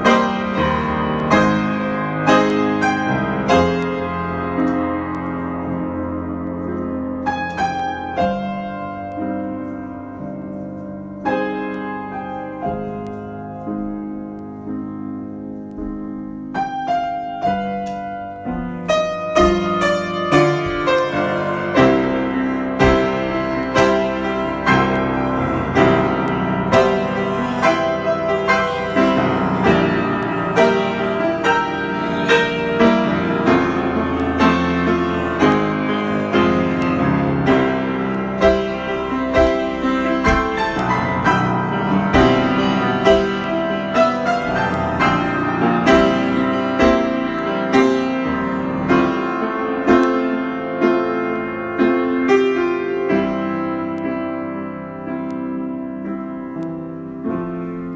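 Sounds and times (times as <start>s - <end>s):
solo piano improvisation: 0.0s - 57.9s.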